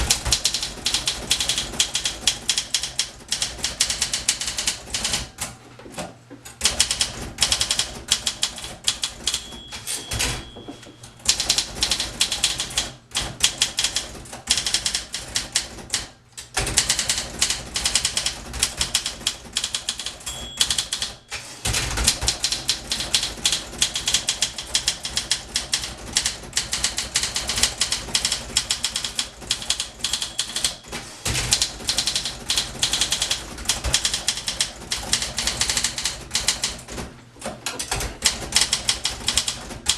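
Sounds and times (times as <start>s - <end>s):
typewriter typing: 0.0s - 5.6s, 6.5s - 39.9s.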